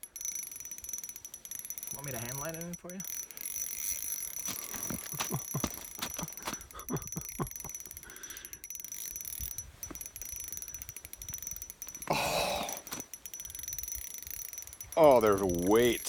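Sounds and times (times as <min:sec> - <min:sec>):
fishing reel drag clicking: 0:00.0 - 0:05.1, 0:07.6 - 0:16.0.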